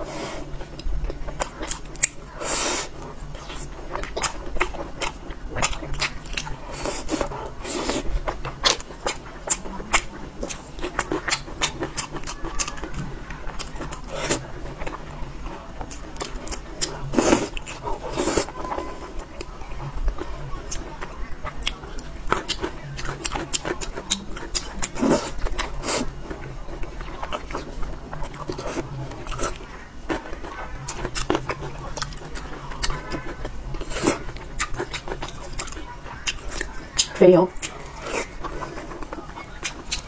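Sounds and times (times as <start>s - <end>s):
wet chewing and mouth sounds: 0.0s - 40.0s.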